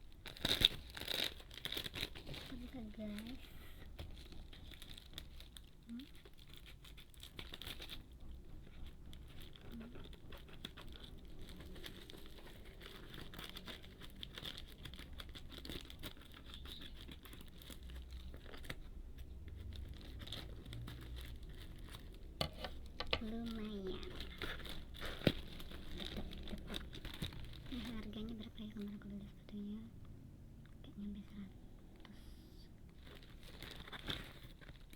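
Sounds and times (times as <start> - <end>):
packaging crinkling: 0.0 - 29.2, 32.8 - 34.9.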